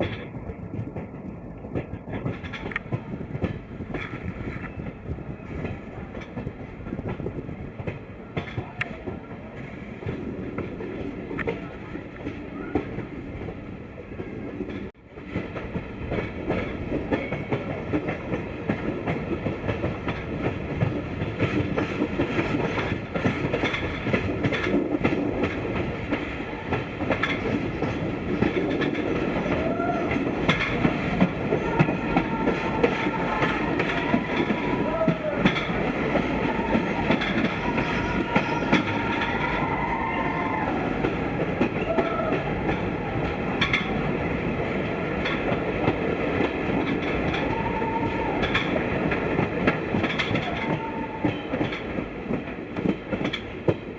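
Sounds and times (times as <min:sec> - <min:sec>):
train rumbling along track: 0:00.0 - 0:53.9
wheels clacking over rail joints: 0:00.0 - 0:53.9.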